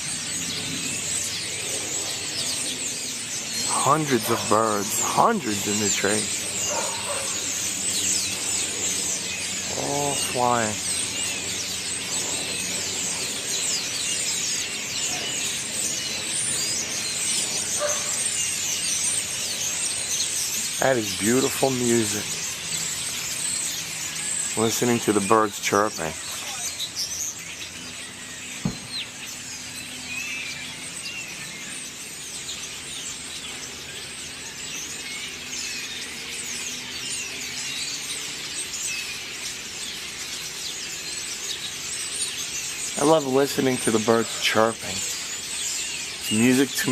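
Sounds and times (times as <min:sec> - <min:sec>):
flock of birds chirping: 0:00.0 - 0:46.9.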